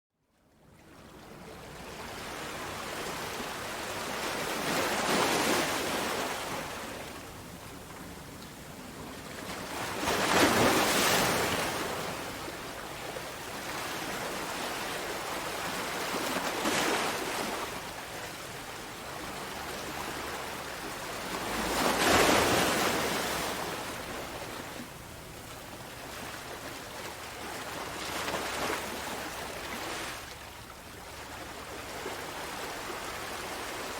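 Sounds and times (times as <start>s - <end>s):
ocean waves breaking on shore: 0.8s - 33.9s.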